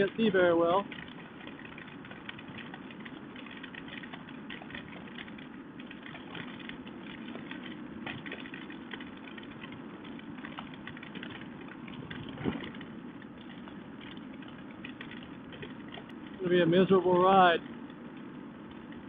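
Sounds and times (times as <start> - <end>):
raindrops hitting hard surfaces: 0.0 - 19.0.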